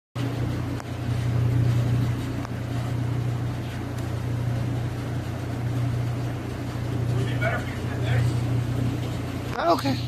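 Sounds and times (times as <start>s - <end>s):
low machinery hum: 0.2s - 10.0s.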